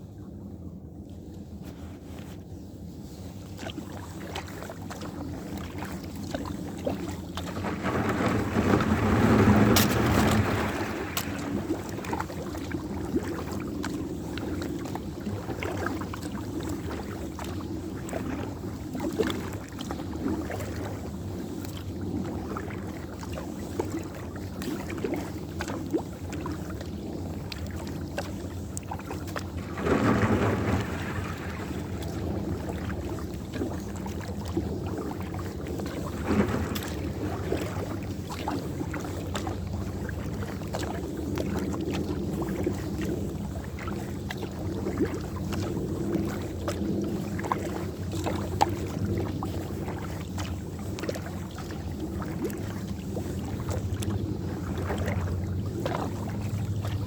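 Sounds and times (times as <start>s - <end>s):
low rumble of water: 0.0s - 57.0s
water swishes: 0.0s - 57.0s
wind on microphone: 0.0s - 57.0s.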